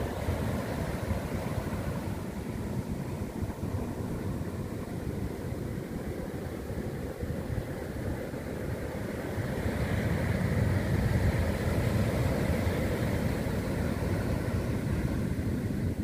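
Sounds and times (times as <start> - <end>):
surf washing up beach: 0.0 - 16.0.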